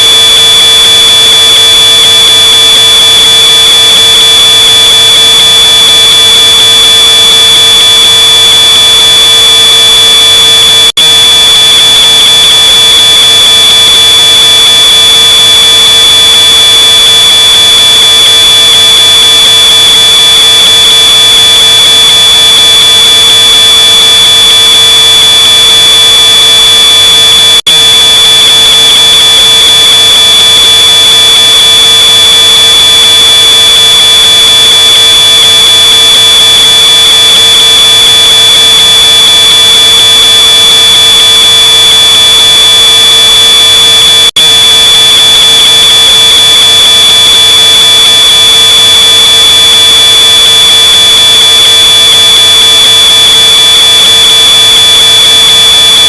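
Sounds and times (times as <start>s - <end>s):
smoke alarm high-pitched tone: 0.0s - 56.0s.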